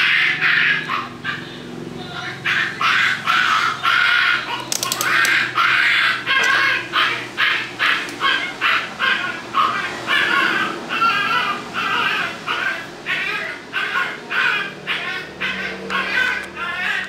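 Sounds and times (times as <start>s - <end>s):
animal calling: 0.0s - 17.0s.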